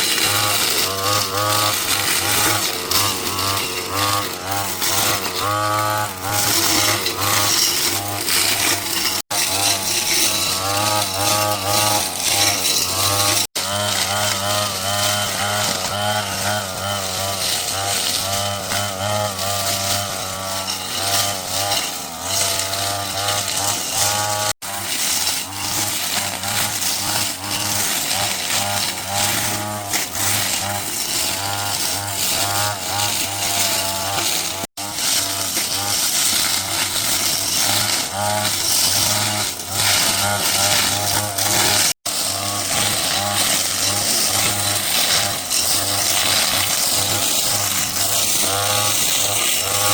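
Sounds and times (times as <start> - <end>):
small petrol engine running: 0.0 - 49.9.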